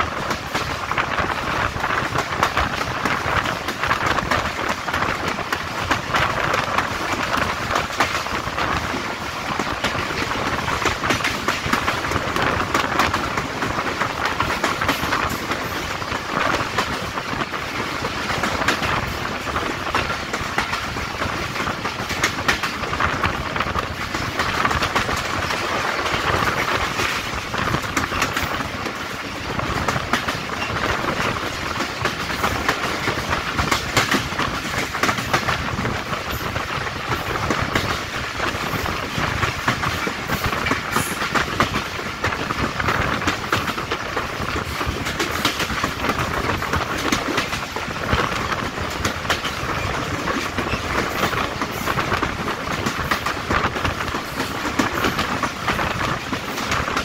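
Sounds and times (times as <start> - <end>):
train coaches rumbling and rattling: 0.0 - 57.0.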